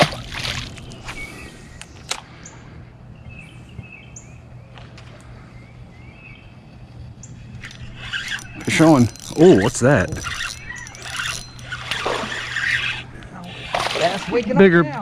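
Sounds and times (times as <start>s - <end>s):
steady low hum: 0.0s - 15.0s
songbirds chirping: 0.1s - 15.0s.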